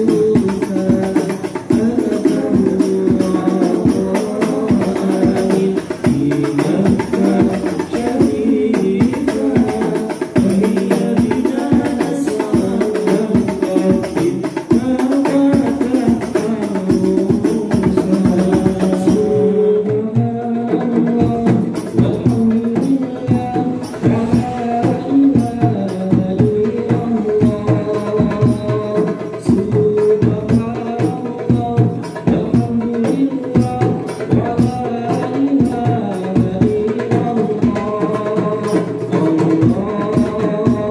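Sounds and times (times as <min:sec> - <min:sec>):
frame drums: 0:00.0 - 0:40.9
large bass drum: 0:00.0 - 0:40.9
men singing into microphones: 0:00.0 - 0:40.9.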